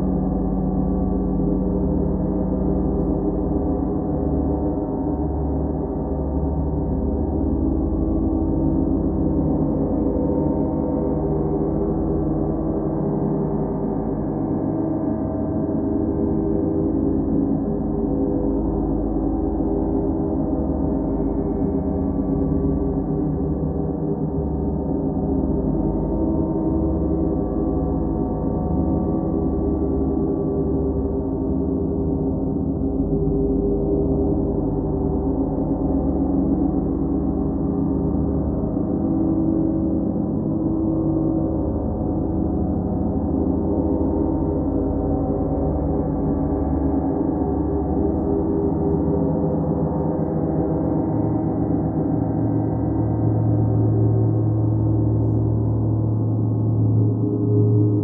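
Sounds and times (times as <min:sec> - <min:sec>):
deep low hum: 0:00.0 - 0:58.0.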